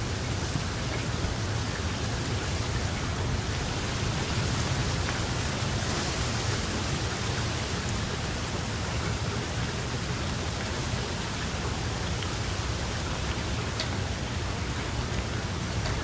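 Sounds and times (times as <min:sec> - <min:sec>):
steady rainfall: 0:00.0 - 0:16.0
raindrop ticks: 0:00.1 - 0:16.0.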